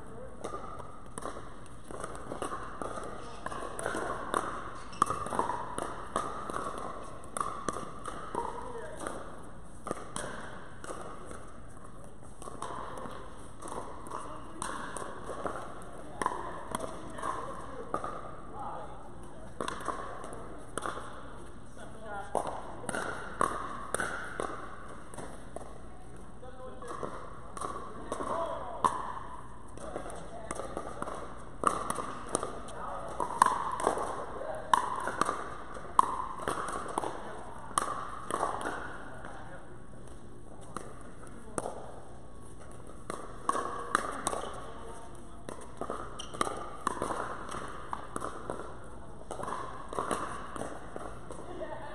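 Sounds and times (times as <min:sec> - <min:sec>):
paddles hitting plastic ball: 0:00.1 - 0:51.9.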